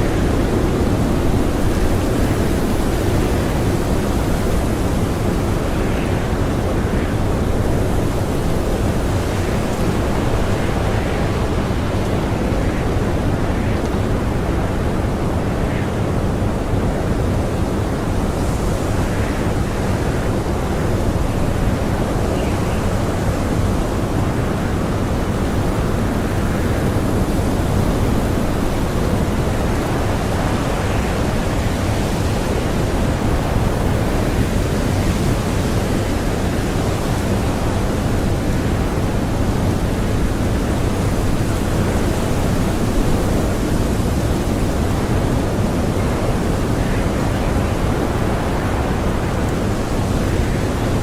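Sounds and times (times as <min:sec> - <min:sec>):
strong blizzard wind blowing: 0:00.0 - 0:51.0.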